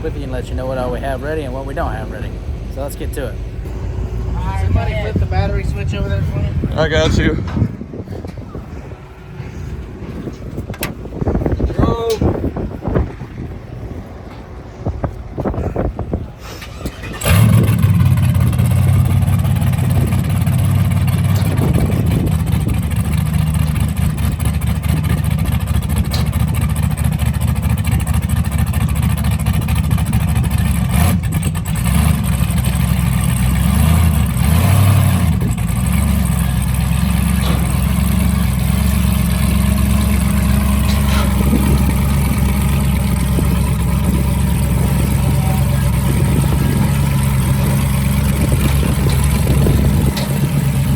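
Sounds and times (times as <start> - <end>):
race car engine idling: 0.0 - 50.9.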